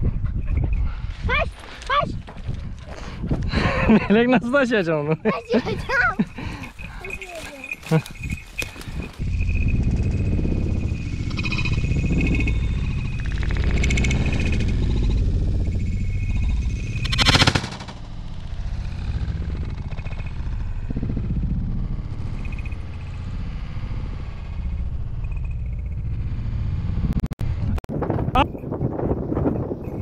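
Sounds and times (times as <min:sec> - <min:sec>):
wind rumbling on microphone: 0:00.0 - 0:04.2, 0:05.6 - 0:30.0.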